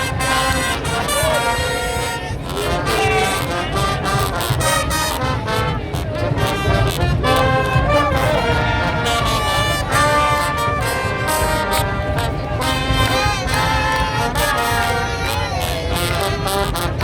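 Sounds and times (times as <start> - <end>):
brass music: 0.0 - 17.0
steady low rumble: 0.0 - 17.0.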